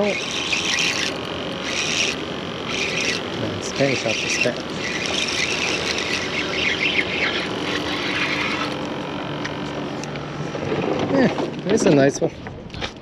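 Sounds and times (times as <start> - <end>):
low steady hum: 0.0 - 12.8
motor vehicle running: 0.0 - 13.0.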